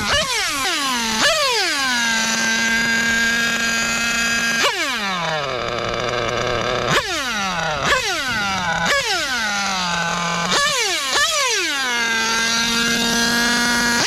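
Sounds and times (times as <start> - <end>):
model engine revving and idling: 0.0 - 14.0.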